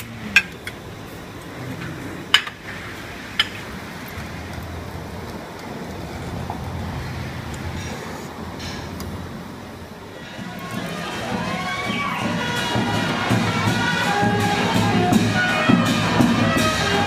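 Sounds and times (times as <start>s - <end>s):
restaurant background rumble: 0.0s - 17.0s.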